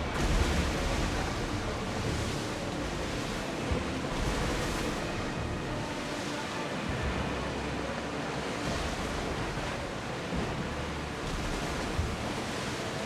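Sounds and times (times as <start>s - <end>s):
sea waves rushing: 0.0s - 13.0s.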